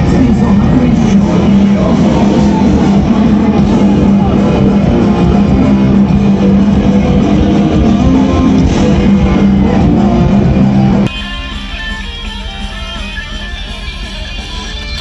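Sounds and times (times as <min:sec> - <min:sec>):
live rock music with electric guitar: 0:00.0 - 0:15.0.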